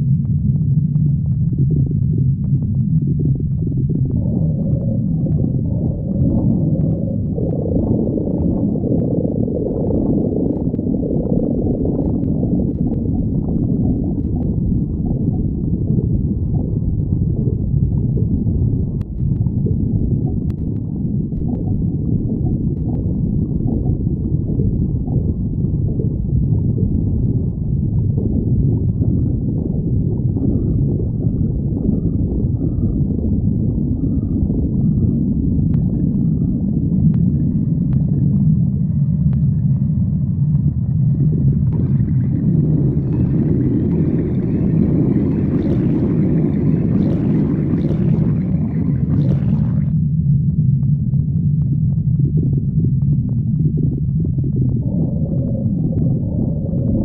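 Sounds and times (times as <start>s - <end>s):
stomach growling and gurgling: 0.0s - 57.0s.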